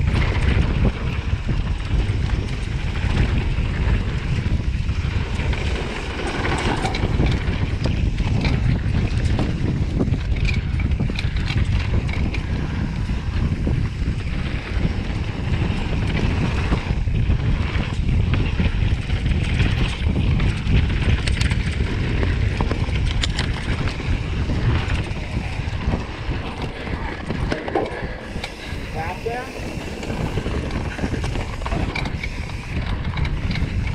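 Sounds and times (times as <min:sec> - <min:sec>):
bike clicks and rattles: 0:00.0 - 0:33.9
bike tyres rolling on dirt: 0:00.0 - 0:33.9
wind buffeting microphone: 0:00.0 - 0:33.9.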